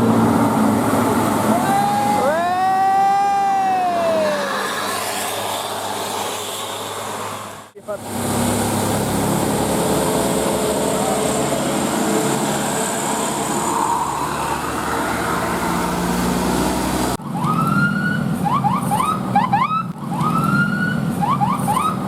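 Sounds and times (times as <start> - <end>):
street noise: 0.0 - 22.0
vehicle engine: 0.0 - 22.0.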